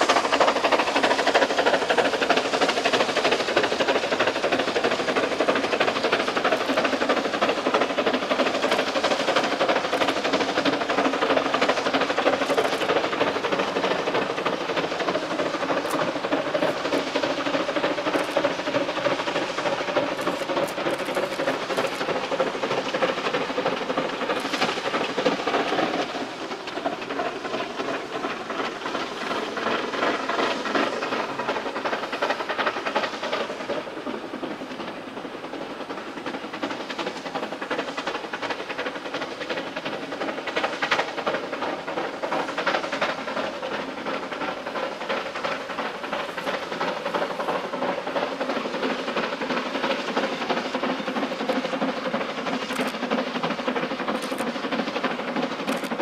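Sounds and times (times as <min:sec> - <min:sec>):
hiss of steam: 0:00.0 - 0:56.0
steam locomotive chuffing: 0:00.0 - 0:56.0.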